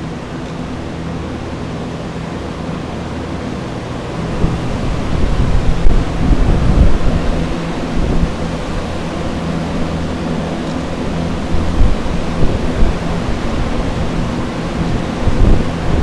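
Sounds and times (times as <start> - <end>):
air movers blowing air: 0.0 - 16.0
low hum: 0.0 - 16.0.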